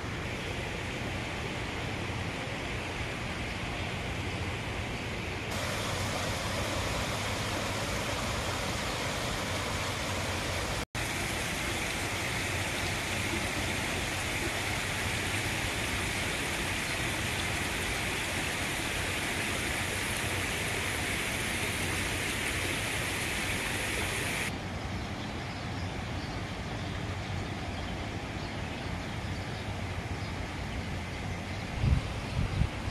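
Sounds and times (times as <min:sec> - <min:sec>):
steady outdoor rushing noise: 0:00.0 - 0:32.9.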